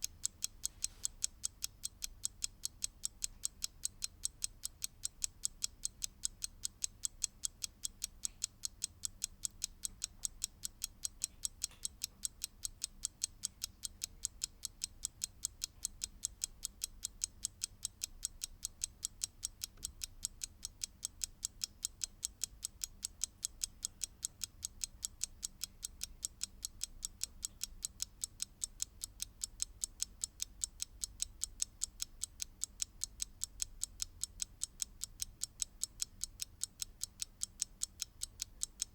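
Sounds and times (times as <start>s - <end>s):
mechanical clock ticking: 0.0s - 38.9s.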